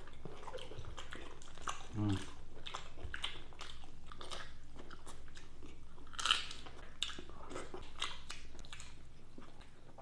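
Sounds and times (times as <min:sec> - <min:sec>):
person chewing crunchy food: 0:00.0 - 0:10.0.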